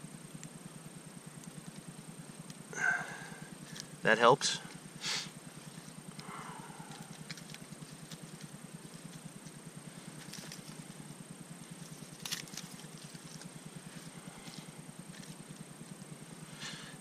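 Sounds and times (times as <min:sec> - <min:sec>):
steady low hum: 0:00.0 - 0:17.0
wood shavings crackling: 0:01.2 - 0:17.0.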